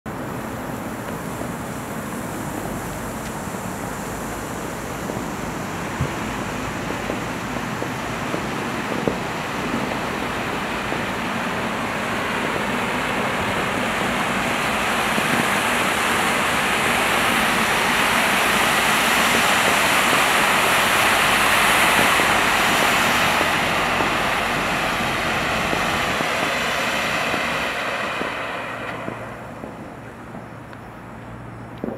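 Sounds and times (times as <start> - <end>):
firework fountains hissing: 0.1 - 31.9.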